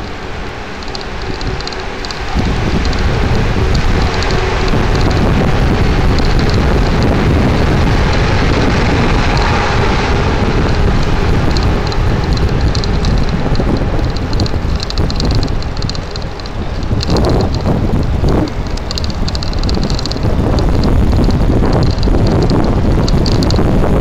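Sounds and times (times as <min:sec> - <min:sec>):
bike rattling over brick paving: 0:00.0 - 0:24.0
wind buffeting microphone: 0:00.0 - 0:24.0.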